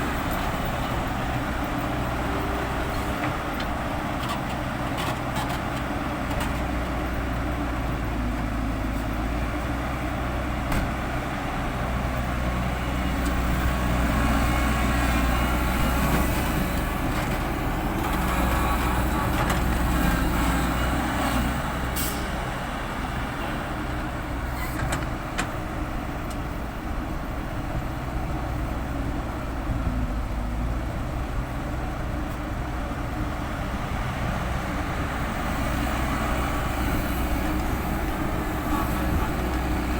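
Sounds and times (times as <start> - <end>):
heavy diesel machinery engine drone: 0.0 - 39.9.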